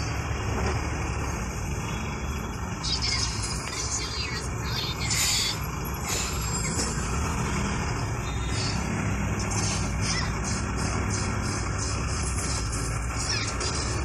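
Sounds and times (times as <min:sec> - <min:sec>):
engine and traffic rumble: 0:00.0 - 0:14.0.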